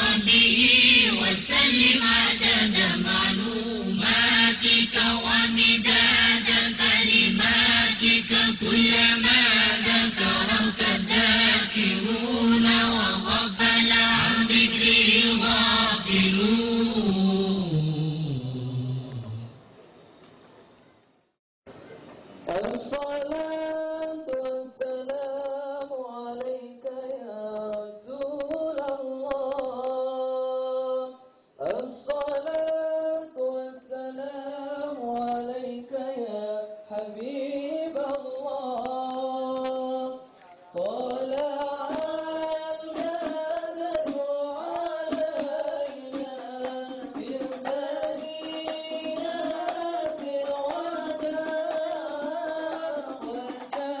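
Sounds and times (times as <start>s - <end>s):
person singing devotional chant: 0.0s - 19.6s, 22.5s - 54.0s.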